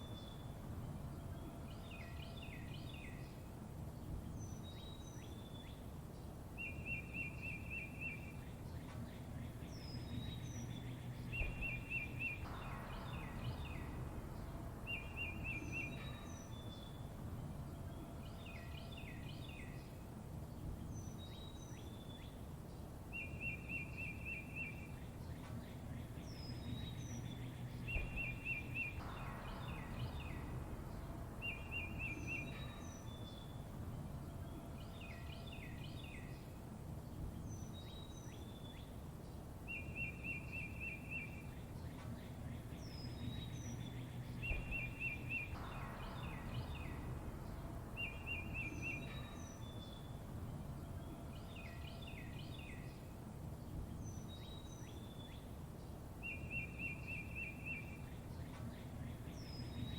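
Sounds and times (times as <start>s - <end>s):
low background rumble: 0.0s - 59.9s
songbirds chirping: 0.0s - 59.9s.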